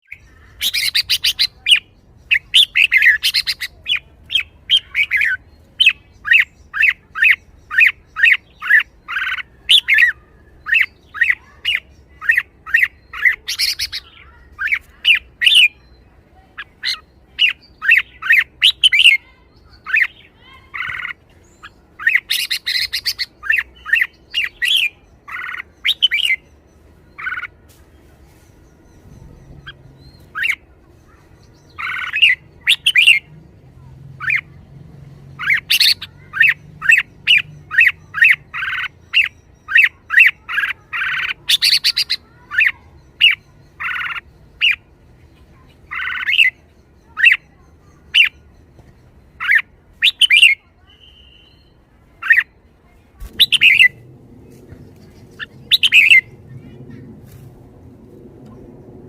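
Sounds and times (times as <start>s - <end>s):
bird rapid chattering: 0.0s - 27.6s, 28.5s - 33.3s, 35.4s - 52.5s, 53.2s - 57.2s
bird singing bright phrases: 0.0s - 57.4s.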